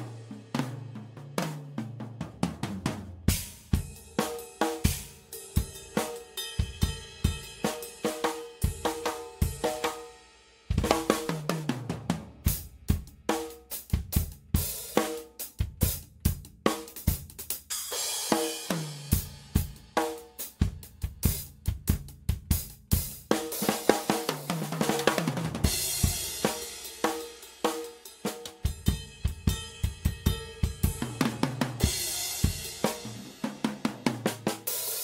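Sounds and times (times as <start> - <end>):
drum kit groove: 0.0 - 35.0.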